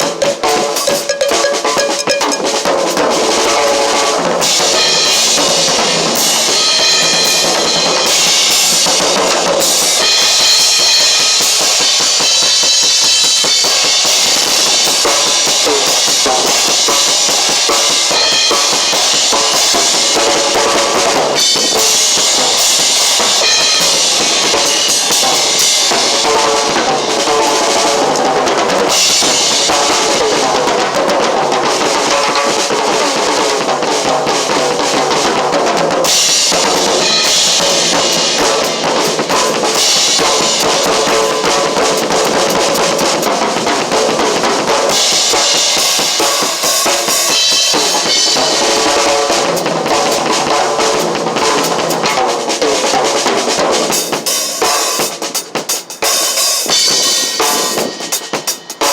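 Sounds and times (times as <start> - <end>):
drum kit playing: 0.0 - 58.9.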